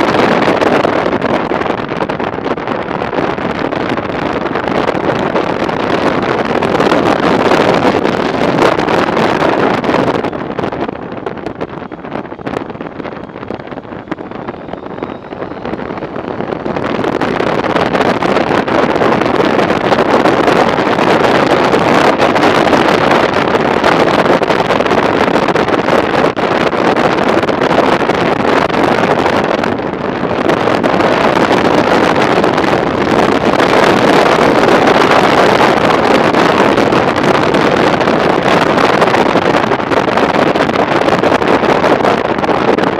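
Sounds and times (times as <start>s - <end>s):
motorcycle running: 0.0s - 42.9s
wind rush on microphone: 0.0s - 42.9s.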